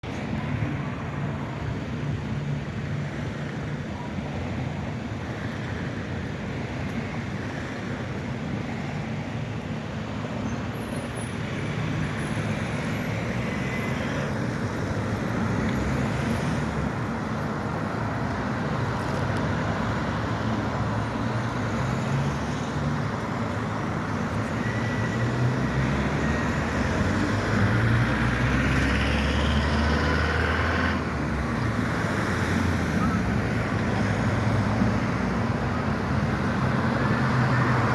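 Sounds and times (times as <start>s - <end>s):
passing road traffic: 0.0s - 37.9s.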